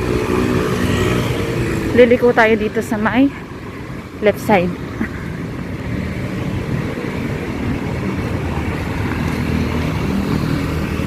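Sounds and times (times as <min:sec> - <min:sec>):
street traffic hum: 0:00.0 - 0:11.0
vehicle engines droning: 0:00.0 - 0:11.0.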